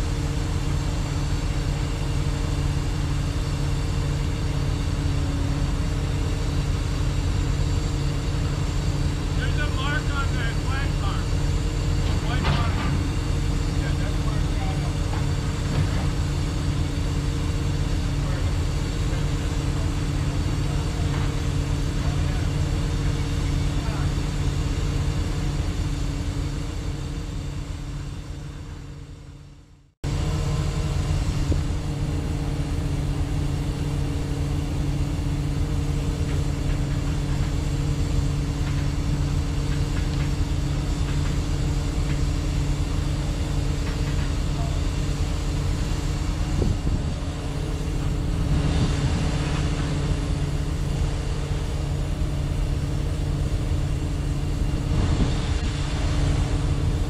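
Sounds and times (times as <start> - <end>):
diesel crane engine running: 0.0 - 57.0.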